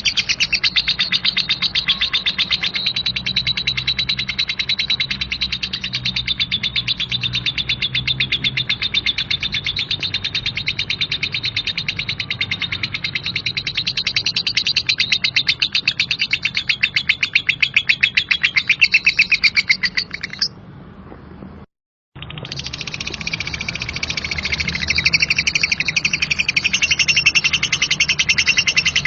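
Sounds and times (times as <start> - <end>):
lovebird chattering trill: 0.0 - 20.6, 22.2 - 29.0.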